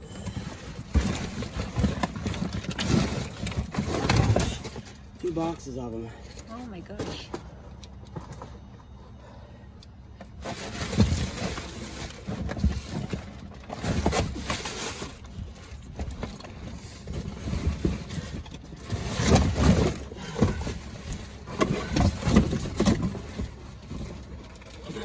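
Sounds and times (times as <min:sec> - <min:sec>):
rustling and crinkling bags: 0:00.0 - 0:09.4, 0:10.2 - 0:25.0.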